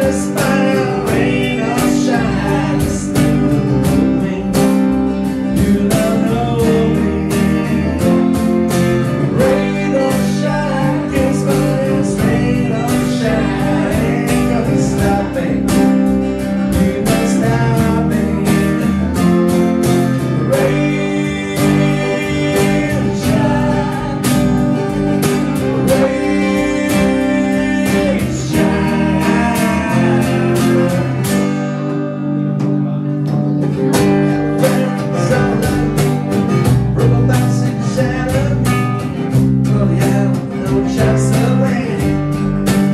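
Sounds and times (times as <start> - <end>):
person singing: 0.0 - 42.3
double bass: 0.0 - 42.9
strummed acoustic guitar: 0.0 - 42.9.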